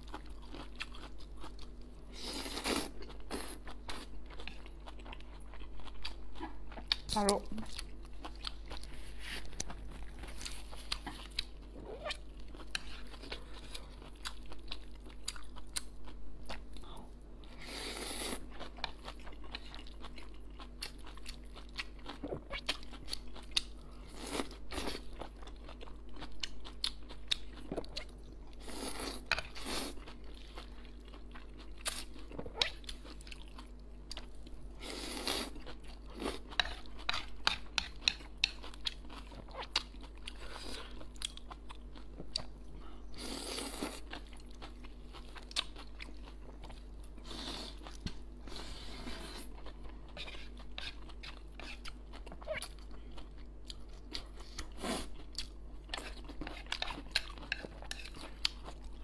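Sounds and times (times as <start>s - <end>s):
person chewing noodles: 0.0s - 59.0s.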